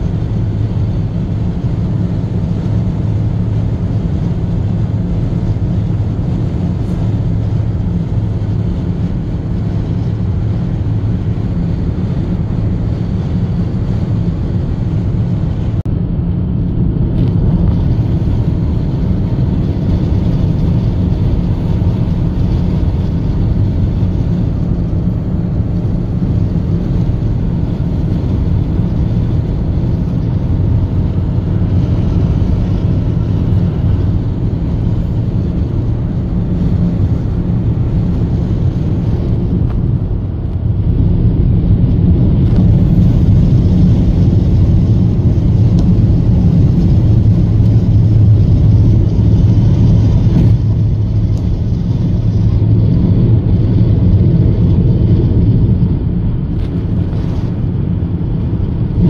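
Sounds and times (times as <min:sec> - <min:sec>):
car driving low rumble: 0:00.0 - 0:59.0.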